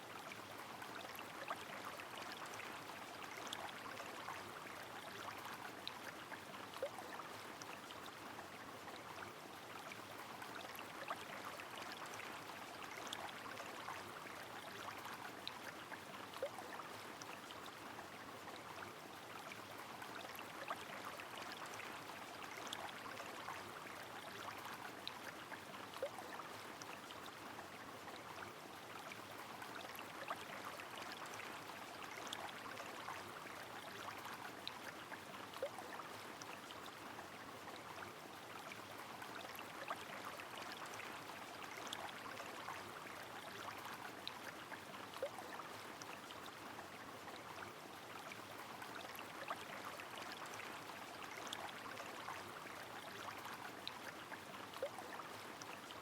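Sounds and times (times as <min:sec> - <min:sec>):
rain on a flowing river: 0:00.0 - 0:56.0.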